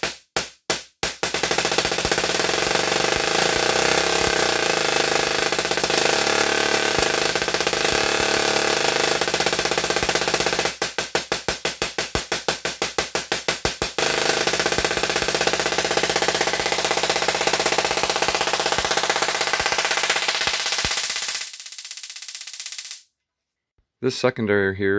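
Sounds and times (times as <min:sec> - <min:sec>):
tesla coil buzzing sparks: 0:00.0 - 0:23.0.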